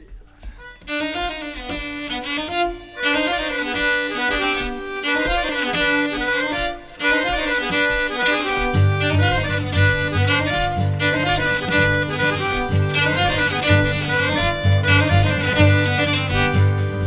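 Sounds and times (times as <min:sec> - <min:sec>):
low cello notes: 0:00.0 - 0:17.0
acoustic guitar melody: 0:00.4 - 0:17.0.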